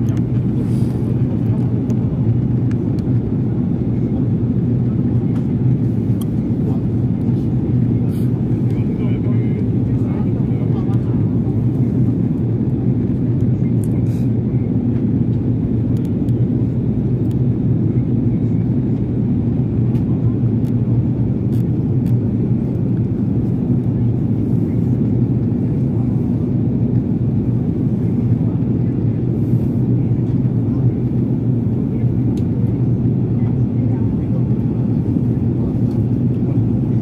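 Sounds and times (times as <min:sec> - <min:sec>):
jet cabin engine rumble: 0:00.0 - 0:37.0.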